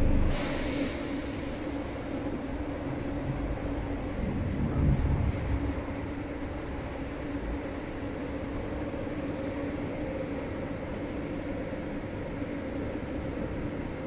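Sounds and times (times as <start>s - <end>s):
electric train interior rumble: 0.0s - 14.0s.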